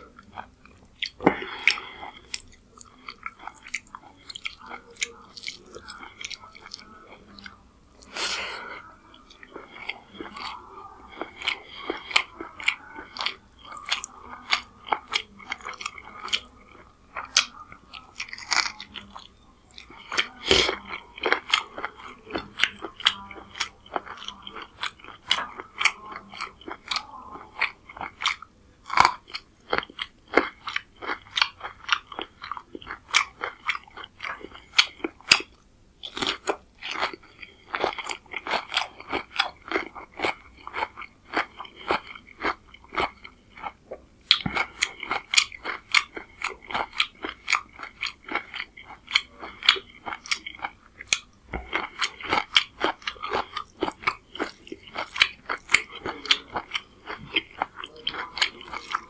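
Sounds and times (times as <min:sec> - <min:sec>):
close chewing and biting: 0:00.0 - 0:08.2, 0:09.1 - 0:59.0.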